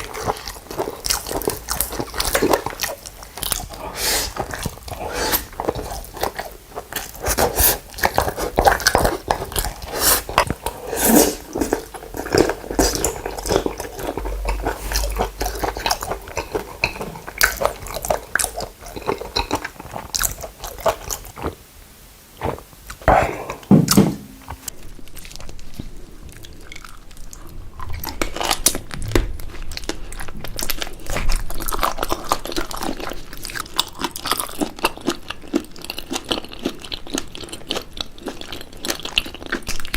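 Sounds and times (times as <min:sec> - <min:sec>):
wet crunchy chewing of shrimp: 0:00.0 - 0:23.7, 0:24.5 - 0:39.9.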